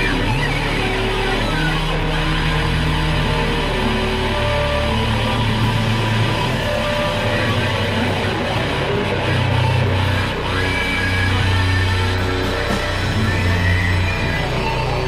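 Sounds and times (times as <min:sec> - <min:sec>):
rock music with guitar: 0:00.0 - 0:15.0.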